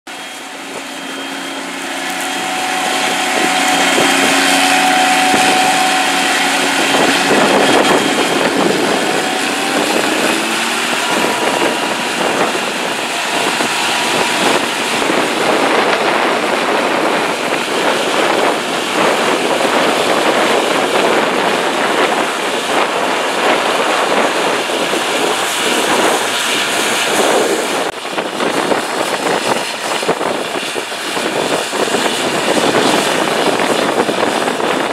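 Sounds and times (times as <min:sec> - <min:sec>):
combine harvester engine drone: 0:00.1 - 0:34.9
steady machinery whine: 0:00.1 - 0:34.9.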